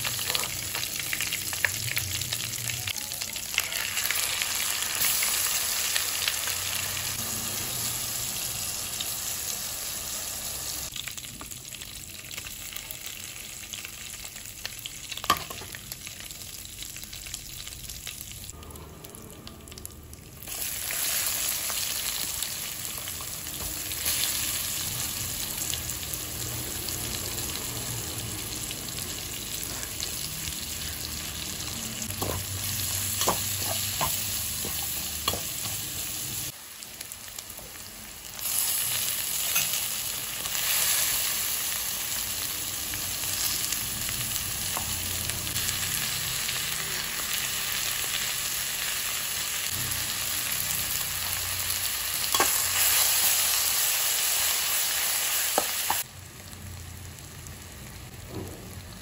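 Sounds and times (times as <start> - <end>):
hot oil sizzling in a pan: 0.0 - 59.0.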